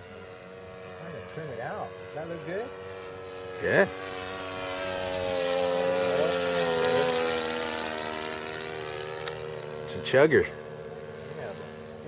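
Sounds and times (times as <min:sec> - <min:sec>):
model plane engine chugging: 0:00.0 - 0:12.0.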